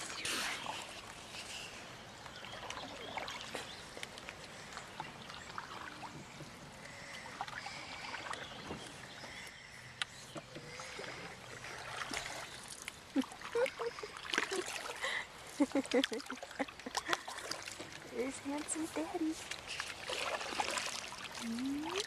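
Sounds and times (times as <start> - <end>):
water lapping around canoe: 0.0 - 22.0.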